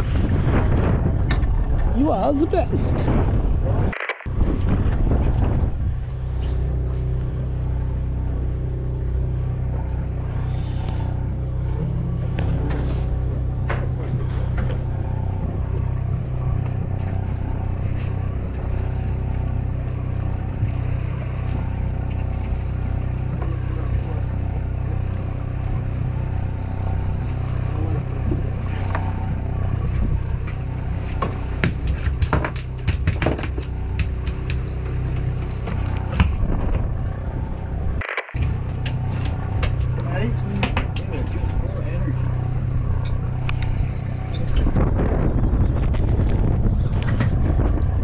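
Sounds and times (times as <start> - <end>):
boat engine running: 0.0 - 48.0.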